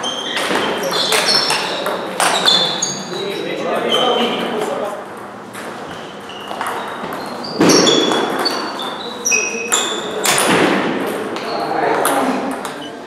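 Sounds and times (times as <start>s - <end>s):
table tennis balls pinging: 0.0s - 4.1s, 5.1s - 12.9s.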